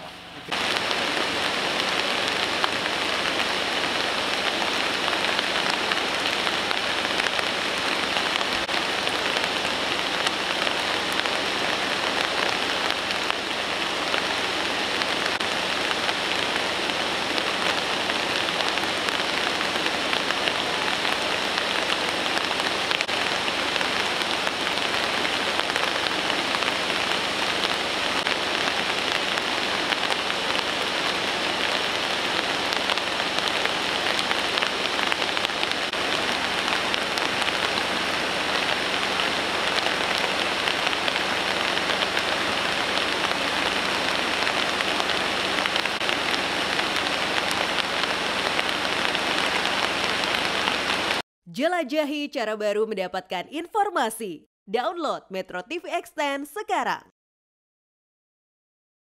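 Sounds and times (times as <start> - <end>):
heavy rain: 0.0 - 51.2.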